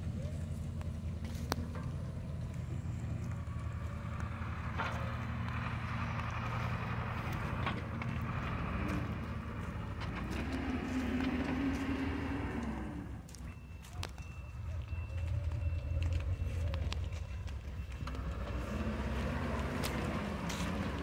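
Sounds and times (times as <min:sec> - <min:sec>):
engine rumbling steadily: 0:00.0 - 0:21.0.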